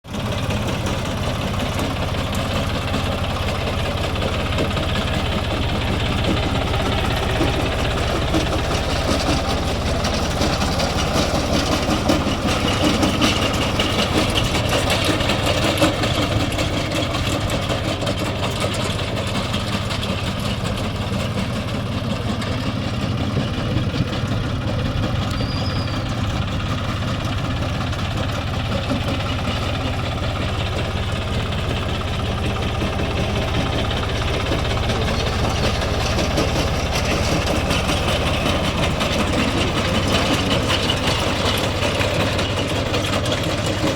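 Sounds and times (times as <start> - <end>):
tractor engine droning: 0.0 - 43.9.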